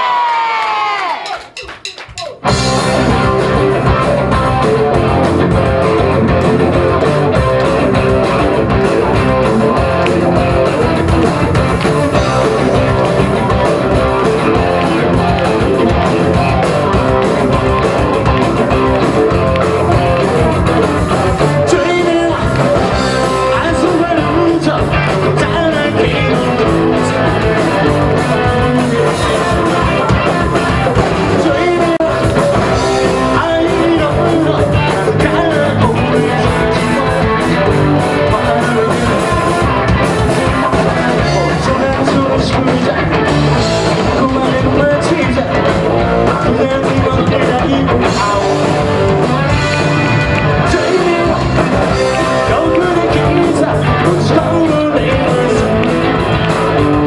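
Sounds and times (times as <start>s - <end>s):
rock band playing live: 1.6s - 57.0s
person singing: 2.2s - 57.0s.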